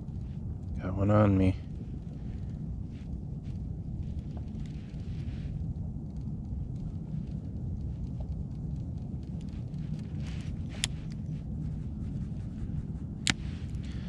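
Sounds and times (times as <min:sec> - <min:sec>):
faint scattered ticks: 0:00.0 - 0:14.0
low wind rumble on microphone: 0:00.0 - 0:14.0.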